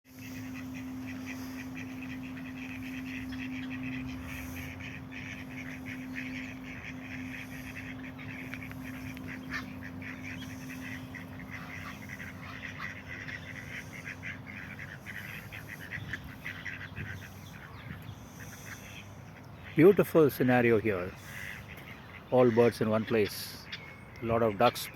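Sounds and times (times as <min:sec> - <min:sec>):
steady low hum: 0:00.1 - 0:19.9, 0:20.6 - 0:22.3
ducks and geese calling: 0:00.1 - 0:24.9.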